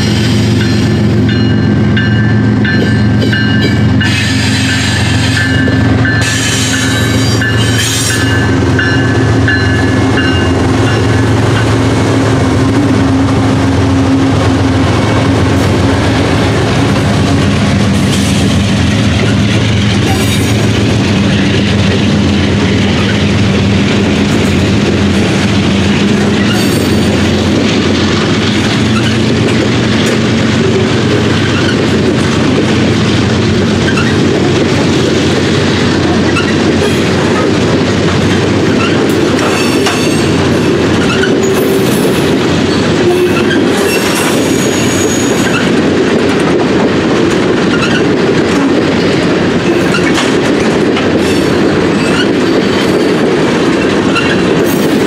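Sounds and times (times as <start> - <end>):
freight train rumble: 0.0 - 55.0
train wheels clattering over rail joints: 0.0 - 55.0.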